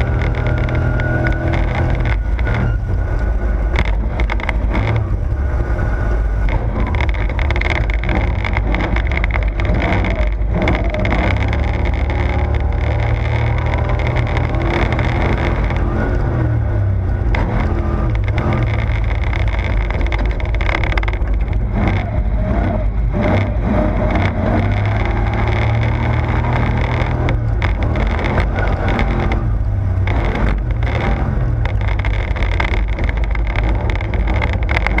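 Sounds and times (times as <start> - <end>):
truck engine running hard: 0.0 - 35.0.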